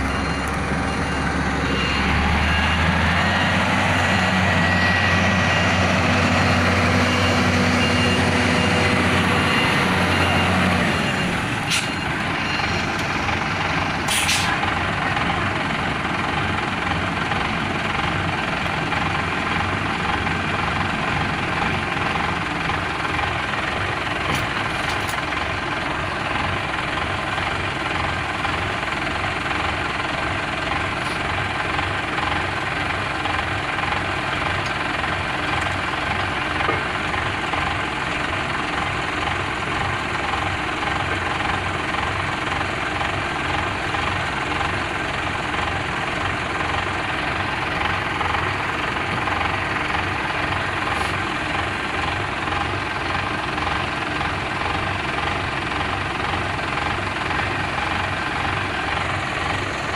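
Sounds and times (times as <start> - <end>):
large engine rumbling: 0.0 - 59.9.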